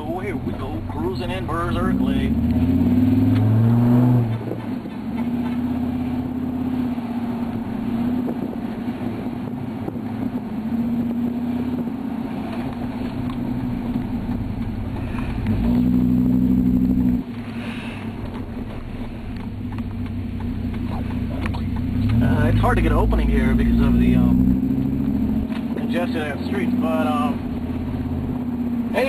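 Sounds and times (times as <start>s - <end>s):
truck engine droning: 0.0s - 29.0s.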